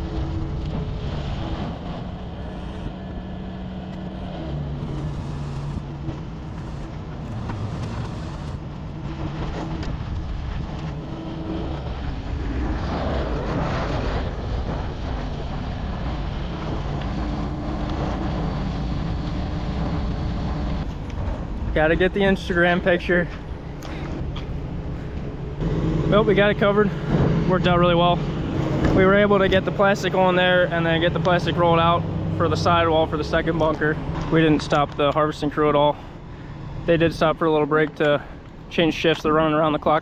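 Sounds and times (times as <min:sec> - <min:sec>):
diesel tractor engines running: 0:00.0 - 0:40.0
tractor towing wagon passing: 0:00.0 - 0:40.0.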